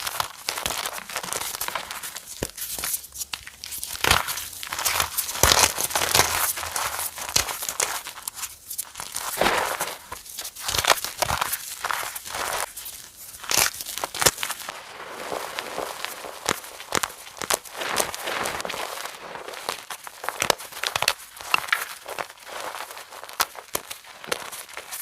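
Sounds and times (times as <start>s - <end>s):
chalk crunching and breaking: 0.0s - 25.0s.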